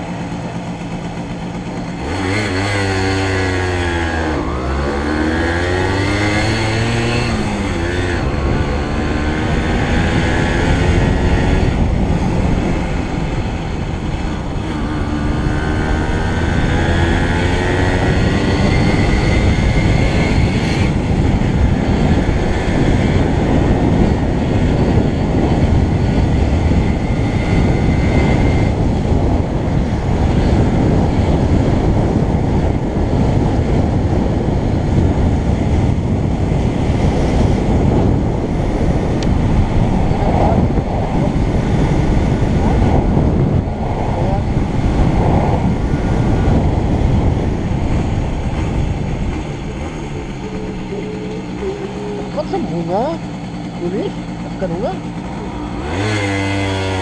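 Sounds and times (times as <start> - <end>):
motorcycle engine revving: 0.0 - 57.0
wind on microphone: 0.0 - 57.0.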